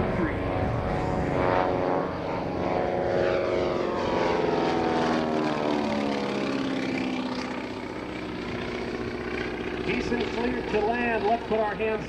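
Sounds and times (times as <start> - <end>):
propeller plane drone: 0.0 - 12.0.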